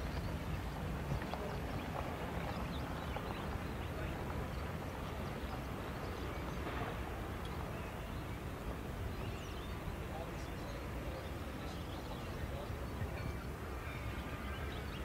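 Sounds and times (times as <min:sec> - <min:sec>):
low outdoor rumble: 0:00.0 - 0:14.9.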